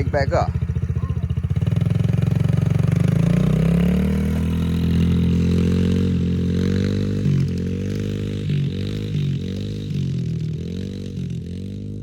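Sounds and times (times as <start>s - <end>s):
dirt bike engine pulling away: 0.0s - 12.0s.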